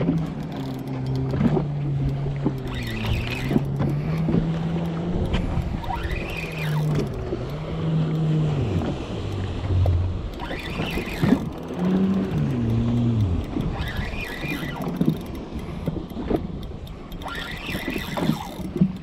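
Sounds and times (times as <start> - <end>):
fishing reel whirring: 0.0 - 9.5, 10.1 - 19.0.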